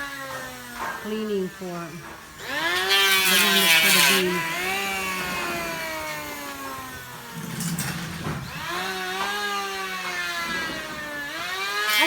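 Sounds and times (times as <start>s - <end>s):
electric power tool motor: 0.0s - 12.0s.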